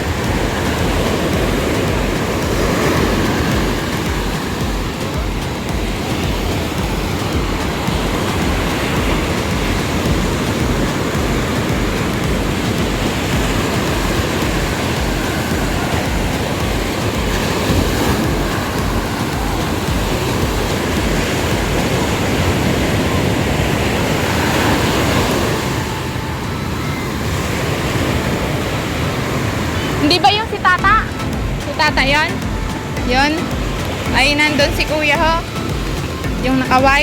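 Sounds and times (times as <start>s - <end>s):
ocean surf breaking: 0.0s - 37.0s
wind rumbling on microphone: 0.0s - 37.0s.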